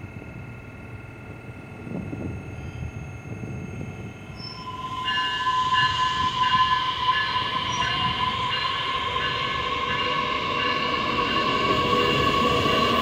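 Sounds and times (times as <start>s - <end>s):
electric train whine: 0.0s - 13.0s
train cars rumbling: 1.4s - 13.0s.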